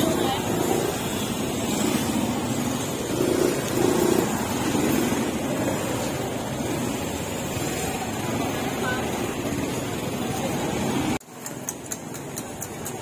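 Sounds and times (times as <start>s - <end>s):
market background noise: 0.0s - 13.0s
passing traffic rumble: 0.0s - 13.0s.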